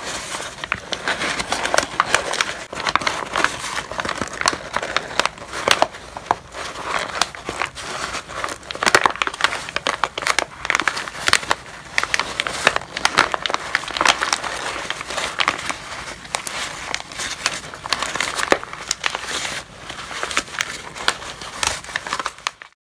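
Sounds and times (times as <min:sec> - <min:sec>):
paper crumpling: 0:00.0 - 0:22.8.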